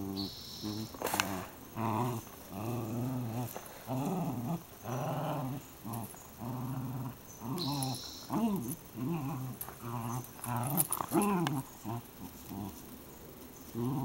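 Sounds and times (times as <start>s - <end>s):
dogs growling in play: 0.0s - 14.0s.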